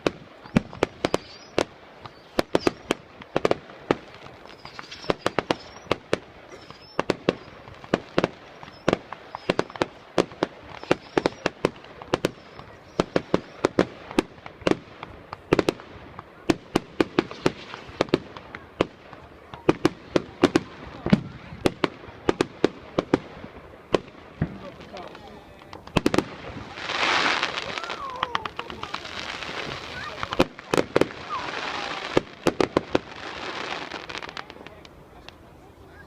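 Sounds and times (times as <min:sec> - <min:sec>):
fireworks bangs: 0:00.0 - 0:36.0.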